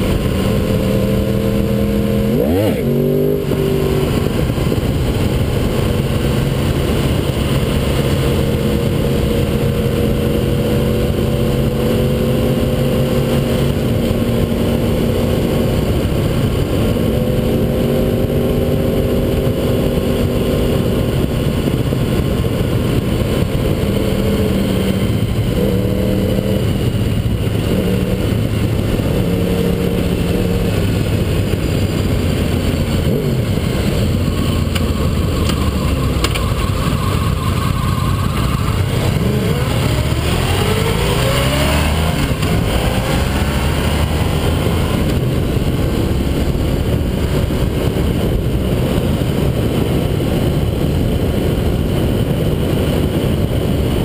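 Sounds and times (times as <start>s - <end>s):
motorcycle engine: 0.0s - 54.0s
wind and road noise: 0.0s - 54.0s.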